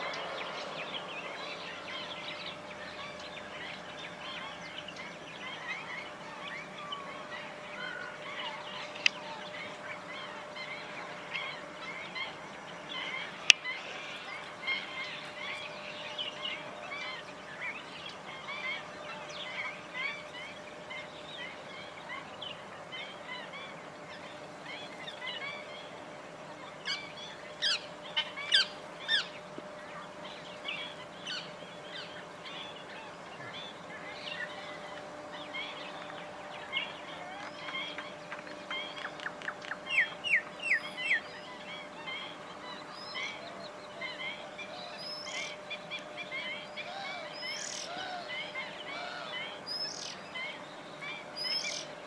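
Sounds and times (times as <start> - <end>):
faint steady hum: 0.0 - 52.0
flock of birds calling: 0.0 - 52.0.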